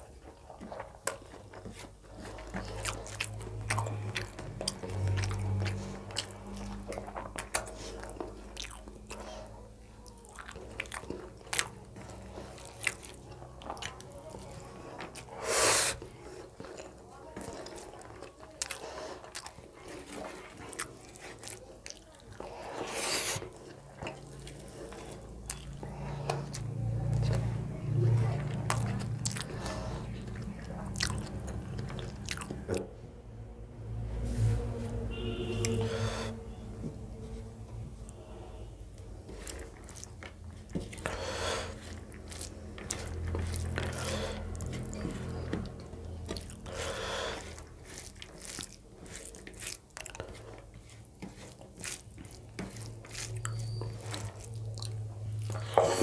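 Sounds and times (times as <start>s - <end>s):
person chewing food: 0.0s - 33.0s, 34.6s - 56.0s.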